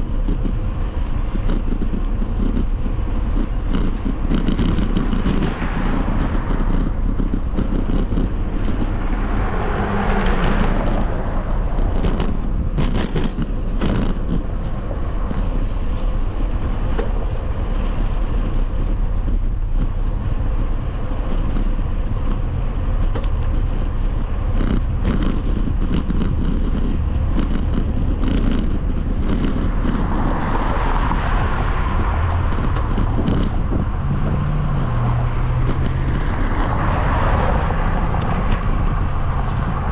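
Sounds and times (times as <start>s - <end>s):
wind and road noise from bike: 0.0s - 39.9s.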